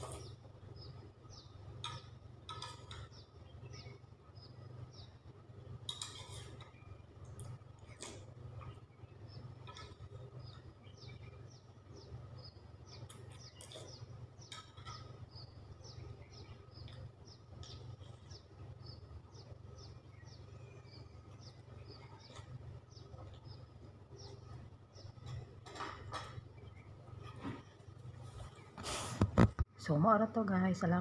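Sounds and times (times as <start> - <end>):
small bird chirping: 0.0 - 28.8
steady low hum: 0.0 - 31.0.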